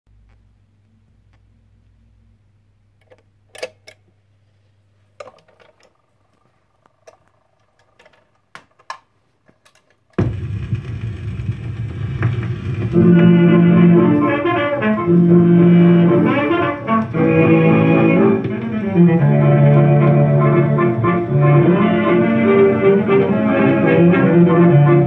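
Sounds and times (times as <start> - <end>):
record surface hiss and crackle: 0.1 - 25.0.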